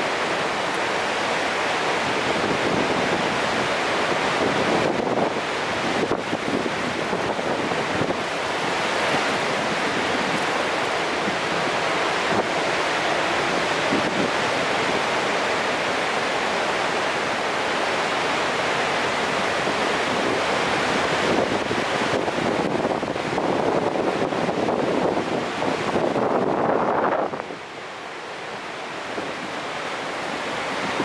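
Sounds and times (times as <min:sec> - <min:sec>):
wind noise on microphone: 0:00.0 - 0:27.8, 0:28.4 - 0:31.0
waterfall rushing: 0:00.0 - 0:31.0.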